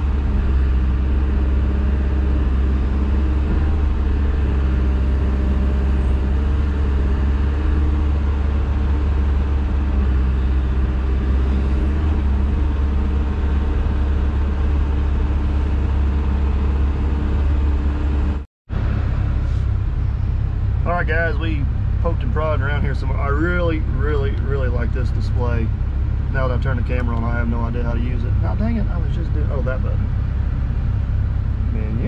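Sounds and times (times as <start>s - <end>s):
excavator engine and hydraulics droning: 0.0s - 32.0s.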